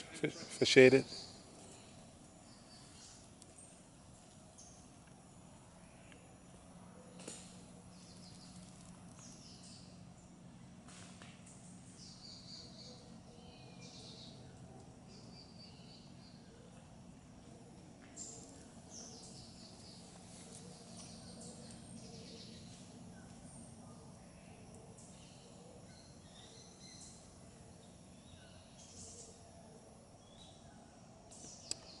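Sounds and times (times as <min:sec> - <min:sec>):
small birds chirping: 0:00.0 - 0:16.9, 0:17.8 - 0:32.0
low steady hum: 0:00.0 - 0:32.0.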